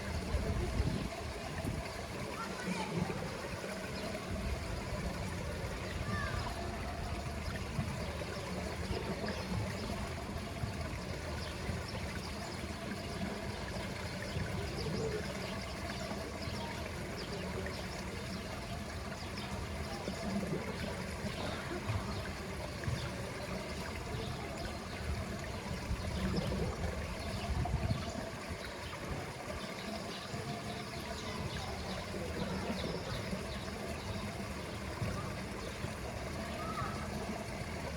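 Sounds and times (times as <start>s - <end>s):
pool water trickling: 0.0s - 37.9s.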